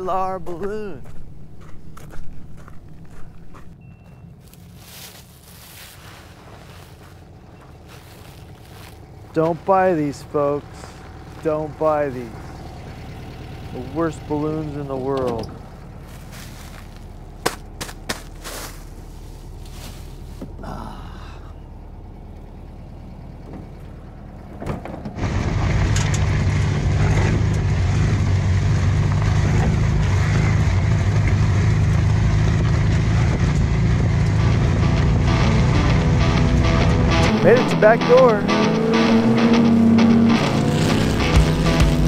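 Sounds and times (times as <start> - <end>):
van engine running: 0.0 - 42.0.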